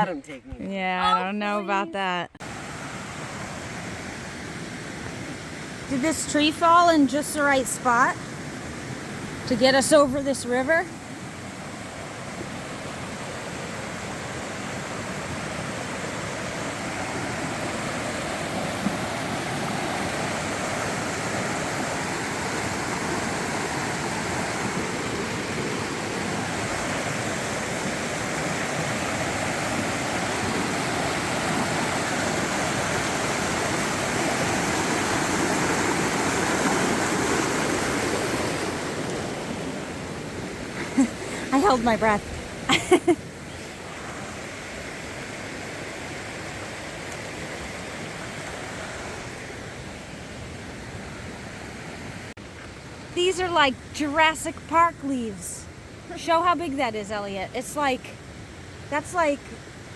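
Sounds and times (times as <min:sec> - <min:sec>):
river rushing: 0:02.4 - 0:59.9.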